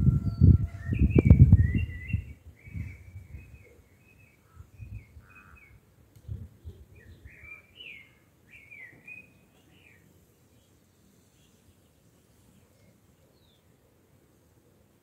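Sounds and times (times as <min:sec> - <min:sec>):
songbird chirping: 0:00.0 - 0:14.2.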